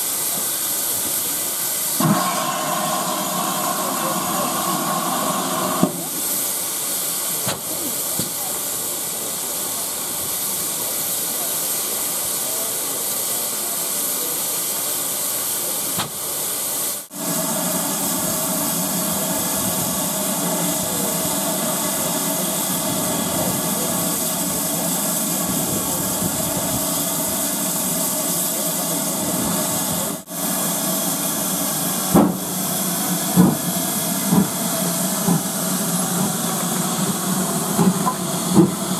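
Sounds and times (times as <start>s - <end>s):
steam hissing: 0.0s - 38.9s.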